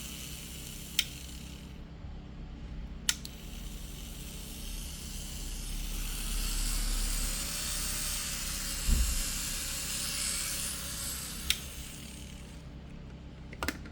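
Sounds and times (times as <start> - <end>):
small electric motor whine: 0.0 - 1.8, 3.2 - 12.8.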